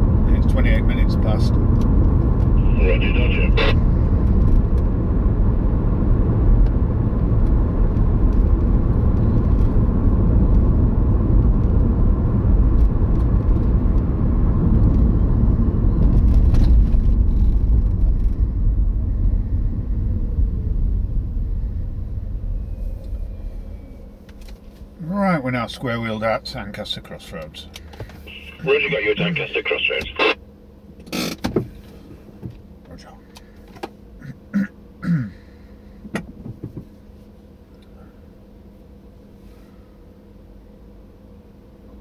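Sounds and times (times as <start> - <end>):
car cabin road and engine noise: 0.0 - 35.3, 36.0 - 39.4.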